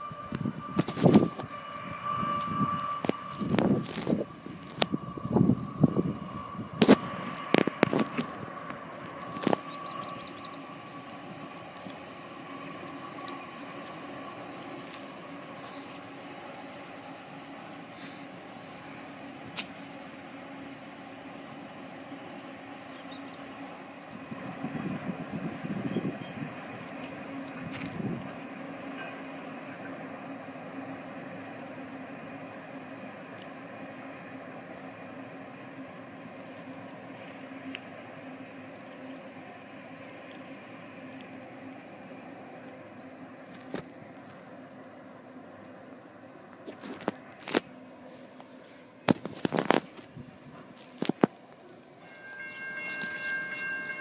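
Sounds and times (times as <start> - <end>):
cicada chorus drone: 0.0 - 54.0.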